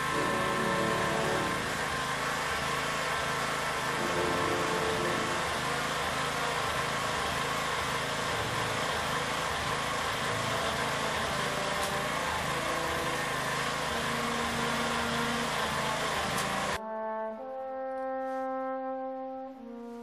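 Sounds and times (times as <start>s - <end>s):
electric pump motor running: 0.0s - 16.8s.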